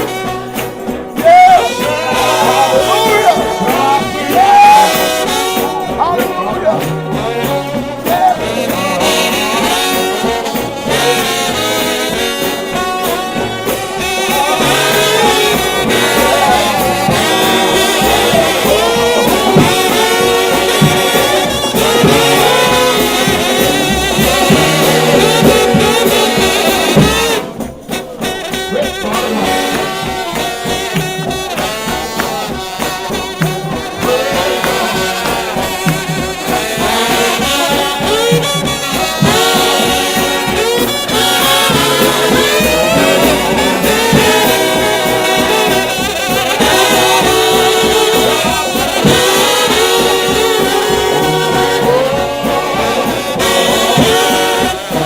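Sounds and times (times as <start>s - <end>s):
brass band playing loudly: 0.0s - 55.0s.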